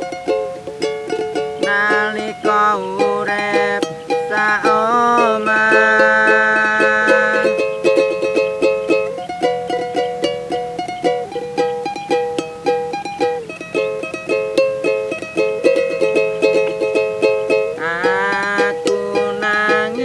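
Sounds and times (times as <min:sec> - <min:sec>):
held melody line: 0:00.0 - 0:20.0
plucked string strumming: 0:00.0 - 0:20.0.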